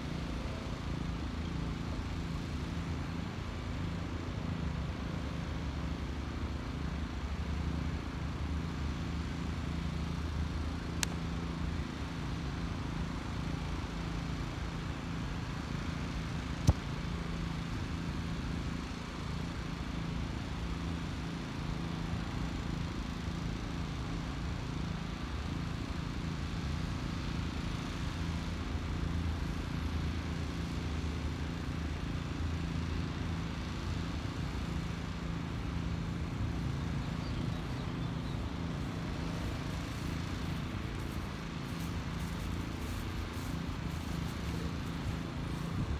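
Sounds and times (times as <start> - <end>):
low mechanical hum: 0.0 - 45.9.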